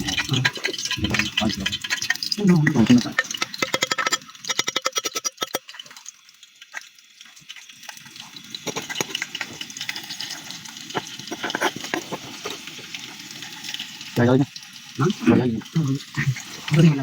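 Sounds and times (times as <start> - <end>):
food frying with crackling sizzle: 0.0 - 17.0.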